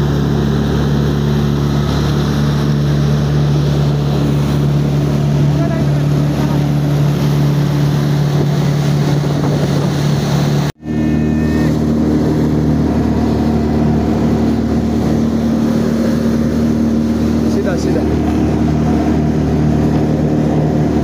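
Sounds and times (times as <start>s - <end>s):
jet ski engine running: 0.0s - 21.0s
water rushing: 0.0s - 21.0s
wind on microphone: 2.8s - 21.0s.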